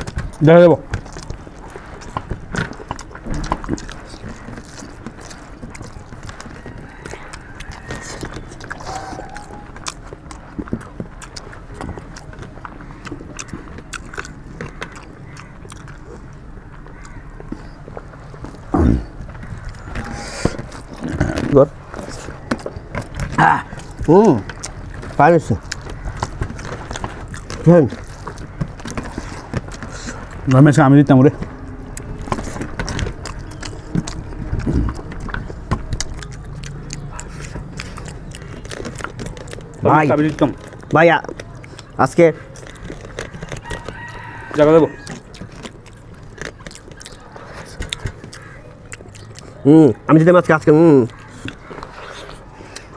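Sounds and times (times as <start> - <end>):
chewing and mouth smacking: 0.0 - 52.9.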